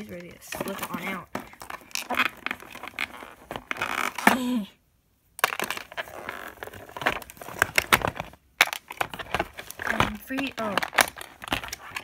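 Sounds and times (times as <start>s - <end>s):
packaging crackling and clicking: 0.0s - 4.3s, 5.4s - 12.0s.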